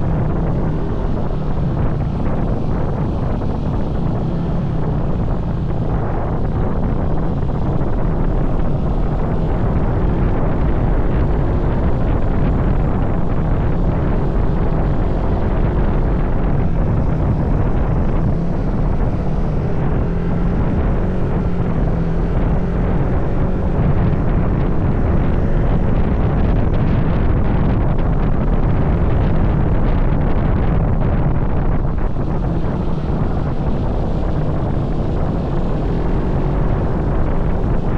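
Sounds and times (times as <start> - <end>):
vehicle engine drone: 0.0 - 37.9
wind noise on microphone: 0.0 - 37.9.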